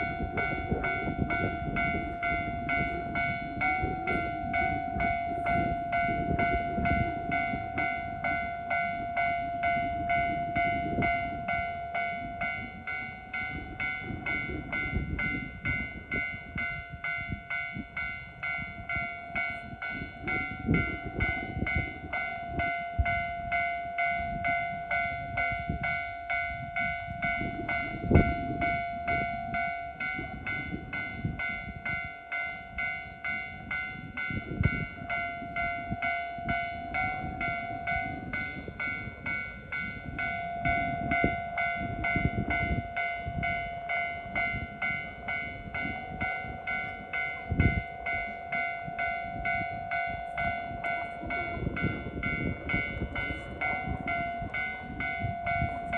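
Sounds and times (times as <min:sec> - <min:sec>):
level crossing bell ringing: 0:00.0 - 0:55.9
train low rumble: 0:00.0 - 0:55.9.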